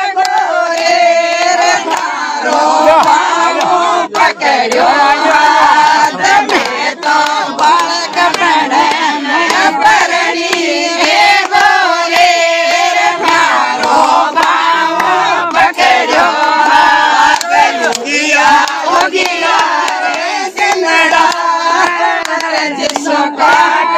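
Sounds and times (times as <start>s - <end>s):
hand claps: 0.0s - 23.9s
women singing folk song: 0.0s - 23.9s.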